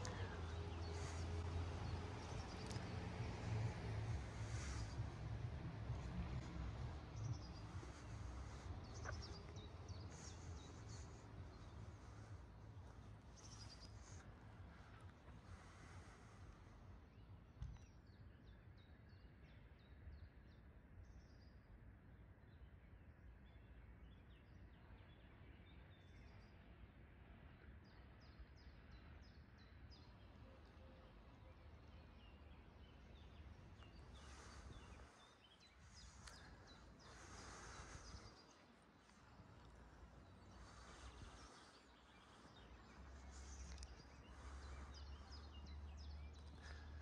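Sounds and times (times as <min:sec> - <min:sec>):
faint birds chirping: 0:00.0 - 0:47.0.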